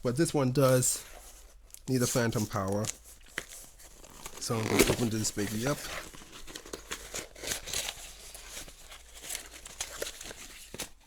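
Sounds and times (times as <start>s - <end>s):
packaging crinkling and tearing: 1.6s - 11.0s.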